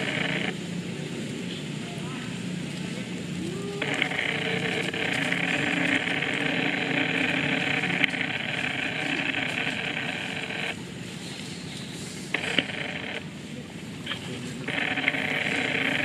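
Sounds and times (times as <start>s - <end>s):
cicadas buzzing: 0.0s - 2.6s, 3.5s - 13.4s, 14.4s - 16.0s.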